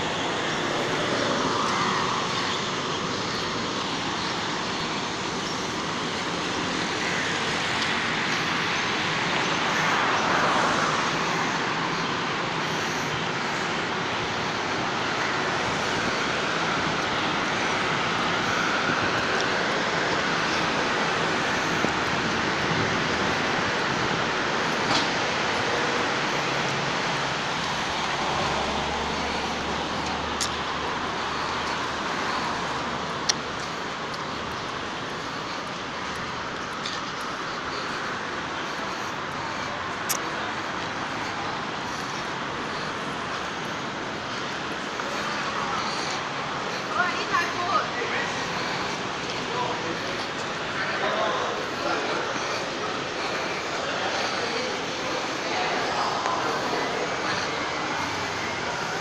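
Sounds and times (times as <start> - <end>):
city traffic noise: 0.0 - 59.0
vehicles passing by: 0.0 - 59.0.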